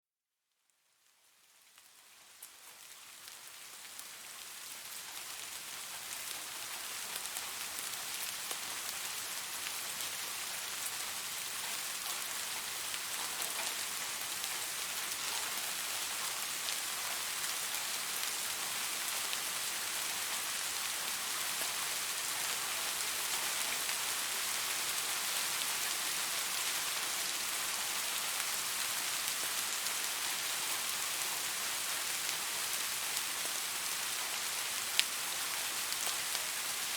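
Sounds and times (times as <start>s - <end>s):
steady rainfall: 1.0s - 36.9s.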